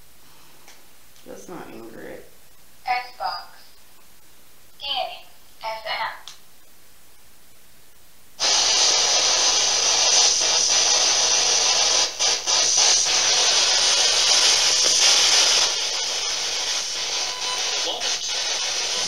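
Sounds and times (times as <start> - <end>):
radio static hiss: 1.2 - 7.4, 8.4 - 19.0.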